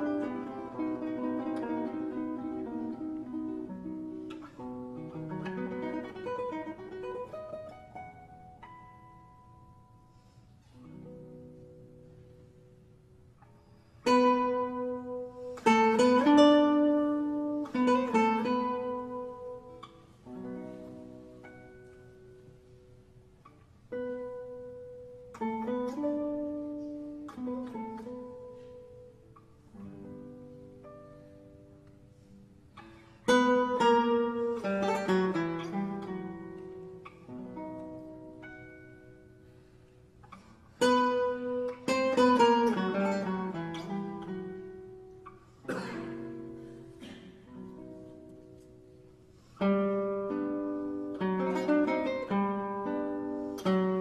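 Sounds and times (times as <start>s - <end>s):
slow plucked string music: 0.0s - 54.0s.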